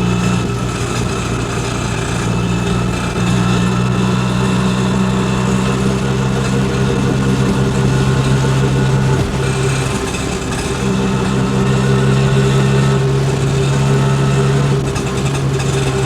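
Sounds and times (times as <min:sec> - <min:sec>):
rickshaw engine idling: 0:00.0 - 0:16.0.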